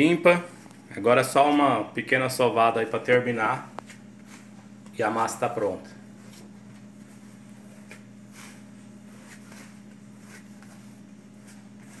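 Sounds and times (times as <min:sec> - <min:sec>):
hands kneading dough: 0:00.0 - 0:12.0
steady low hum: 0:00.0 - 0:12.0.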